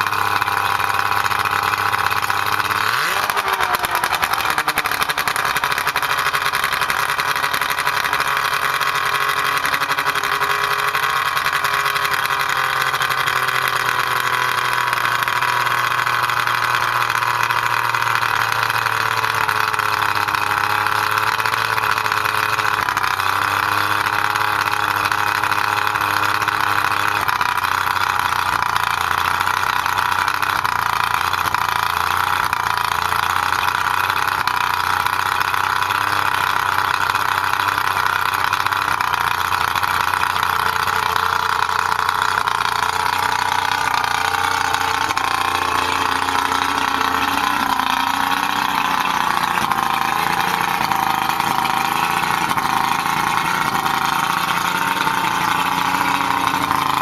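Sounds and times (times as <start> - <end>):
outboard motor idling: 0.0 - 57.0.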